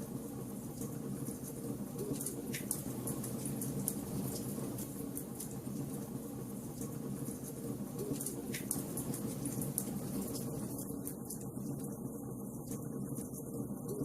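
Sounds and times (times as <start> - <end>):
wood fire crackling and popping: 0.6 - 12.1.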